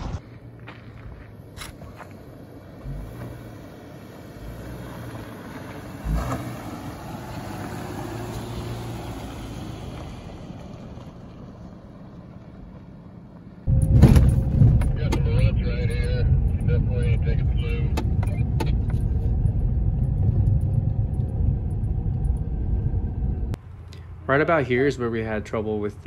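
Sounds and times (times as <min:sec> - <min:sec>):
car engine and tyre noise: 0:00.0 - 0:26.0
engine and road noise inside vehicle: 0:00.0 - 0:26.0.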